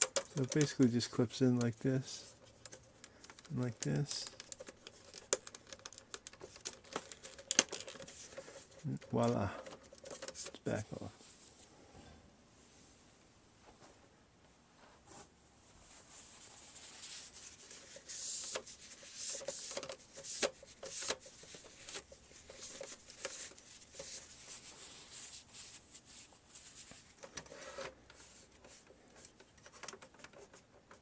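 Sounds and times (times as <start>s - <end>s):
rubbing and scraping with clicks: 0.0s - 11.7s, 15.9s - 31.0s.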